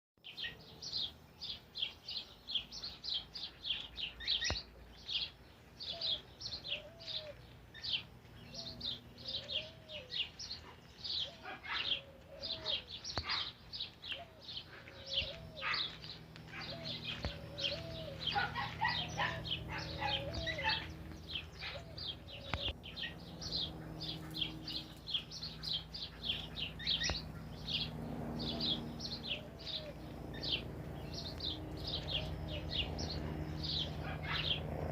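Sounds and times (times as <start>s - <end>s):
birds chirping and singing: 0.2s - 34.9s.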